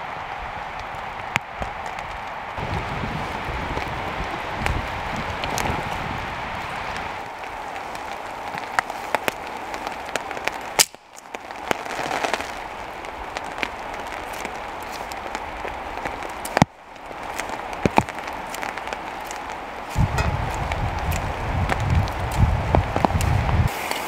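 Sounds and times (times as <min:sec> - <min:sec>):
rain hissing on a tarp: 0:00.0 - 0:24.0
raindrops tapping on a sheet: 0:00.1 - 0:24.0.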